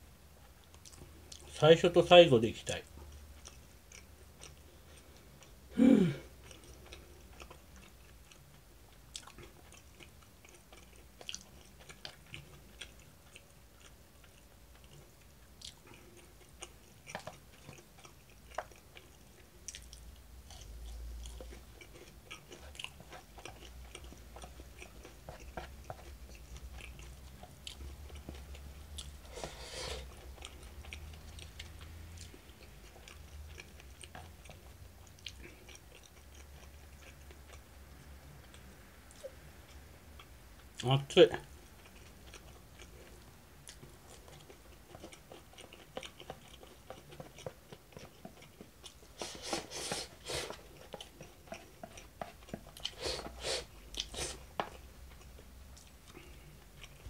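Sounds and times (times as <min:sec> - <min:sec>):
person chewing: 0:00.4 - 0:01.5, 0:02.8 - 0:57.0.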